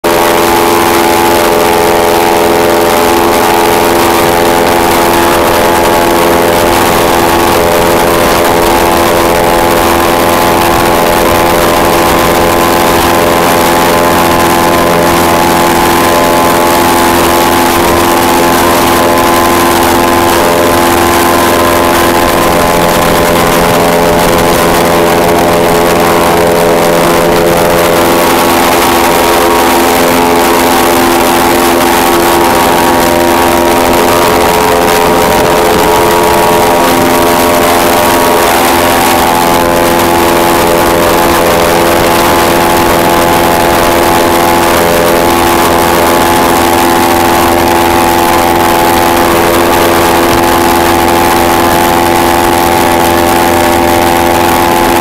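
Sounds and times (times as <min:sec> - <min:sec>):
airboat engine and propeller: 0:00.0 - 0:55.0.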